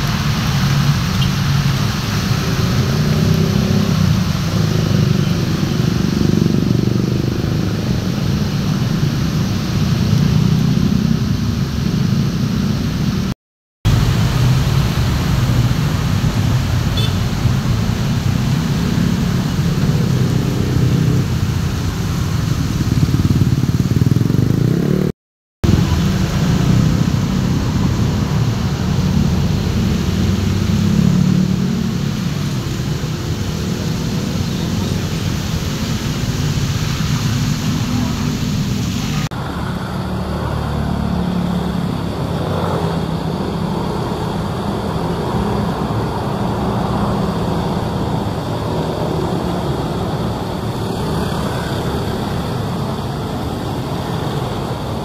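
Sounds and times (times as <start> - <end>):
traffic on a wet road: 0.0 - 13.3, 13.9 - 55.0.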